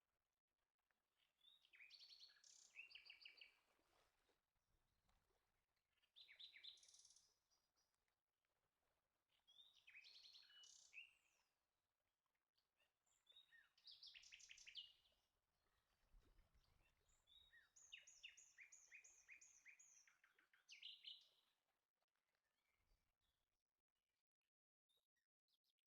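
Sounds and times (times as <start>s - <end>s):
faint bird song: 0.0s - 25.9s.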